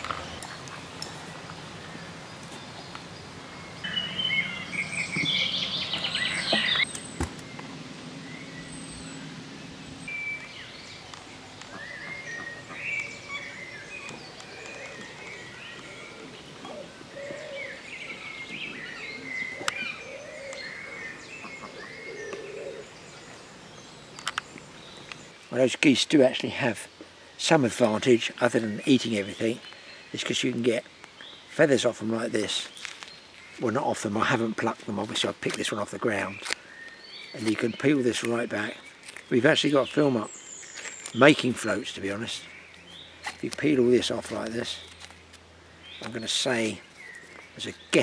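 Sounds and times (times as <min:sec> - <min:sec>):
birds singing and calling: 0:00.0 - 0:48.0.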